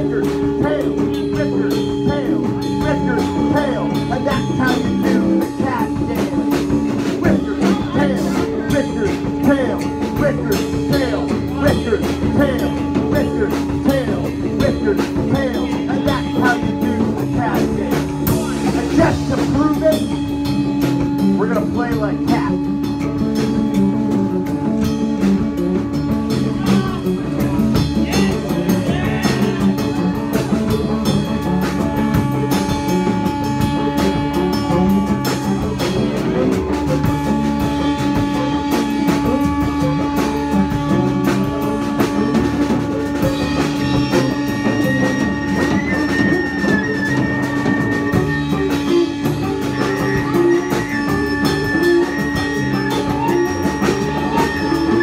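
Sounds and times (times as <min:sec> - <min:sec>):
punk rock band playing loudly: 0:00.0 - 0:55.0.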